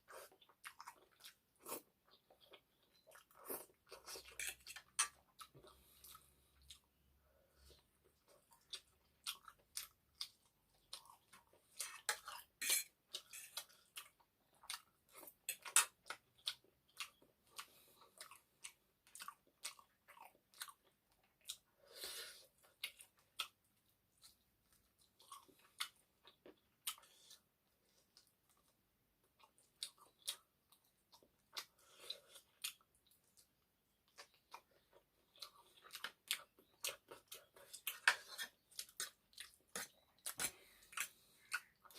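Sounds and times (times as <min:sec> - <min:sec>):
close-miked chewing: 0:00.0 - 0:41.9.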